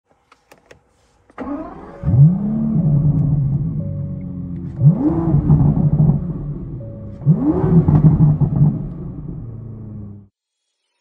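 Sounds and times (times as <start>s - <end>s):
car engine starting and idling: 0.1s - 10.3s
engine throttle blip: 1.4s - 10.2s.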